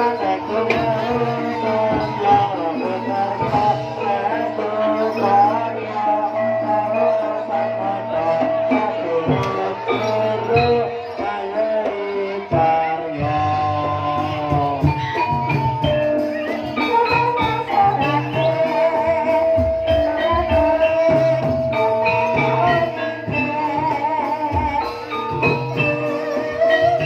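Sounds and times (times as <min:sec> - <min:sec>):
drum strokes: 0:00.0 - 0:27.0
held wavering melody notes: 0:00.0 - 0:27.0
metal mallet percussion: 0:00.0 - 0:27.0.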